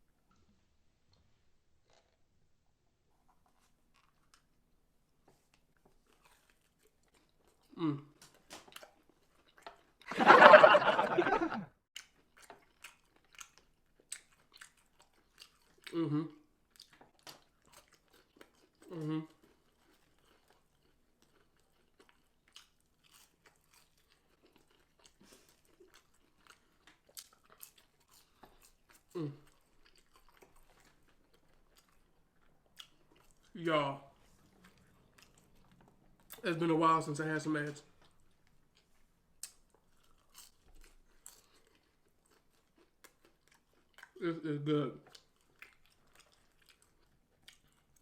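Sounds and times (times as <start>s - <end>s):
chewing and crunching food: 0.0s - 48.0s.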